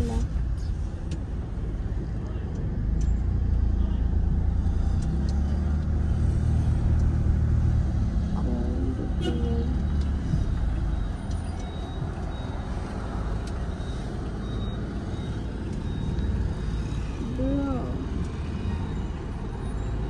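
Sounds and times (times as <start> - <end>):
car engine and road rumble: 0.0 - 20.0
street traffic: 0.0 - 20.0.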